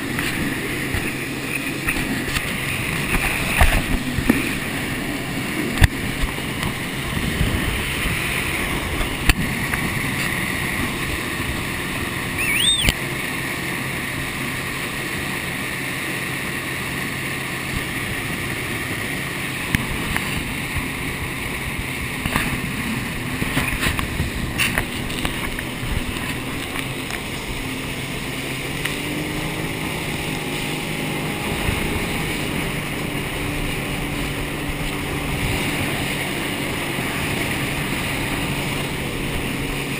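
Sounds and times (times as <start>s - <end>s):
jet ski engine running: 0.0s - 39.9s
water rushing: 0.0s - 39.9s.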